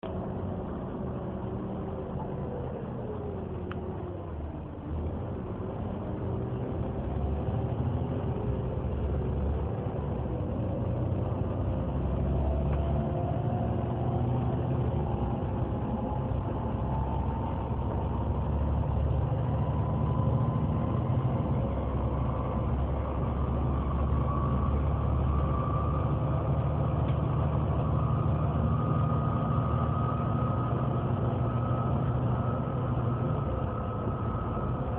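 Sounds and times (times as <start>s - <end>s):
bus engine idling: 0.0s - 34.9s.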